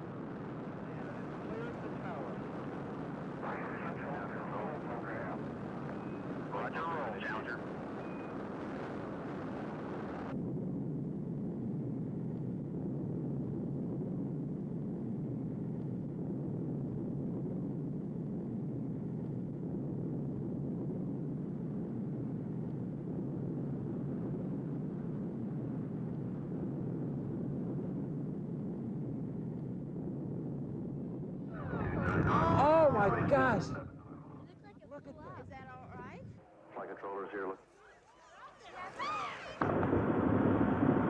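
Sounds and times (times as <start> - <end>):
distant rocket launch rumble: 0.0 - 37.0, 38.8 - 41.0.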